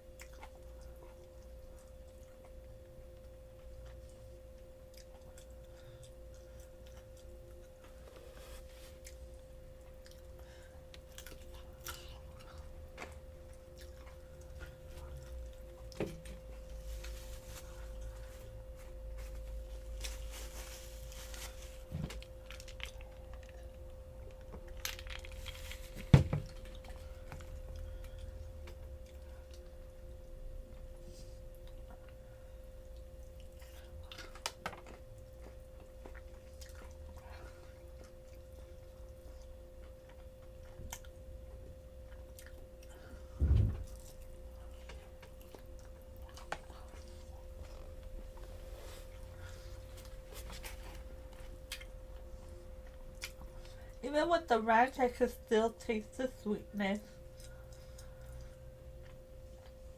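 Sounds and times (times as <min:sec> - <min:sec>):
chewing crispy fried chicken: 0:00.0 - 0:54.0, 0:57.0 - 0:59.9
steady electrical hum: 0:00.0 - 0:59.9.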